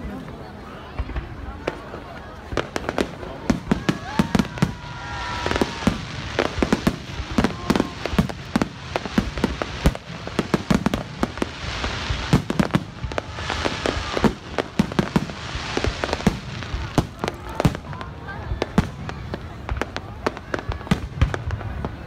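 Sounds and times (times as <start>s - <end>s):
firecracker-like reports: 0.0s - 22.0s
fireworks bursts: 0.0s - 22.0s
crackling hiss: 1.0s - 22.0s.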